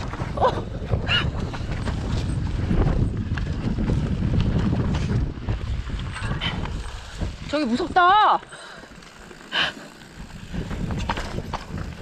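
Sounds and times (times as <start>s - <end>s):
bike clattering over roots: 0.0s - 12.0s.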